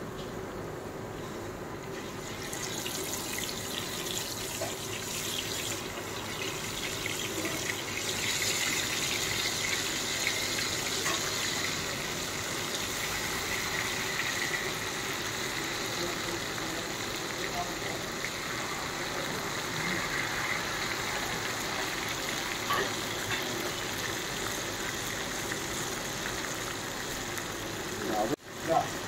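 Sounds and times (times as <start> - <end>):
fish deep-frying in hot oil: 1.9 - 29.0.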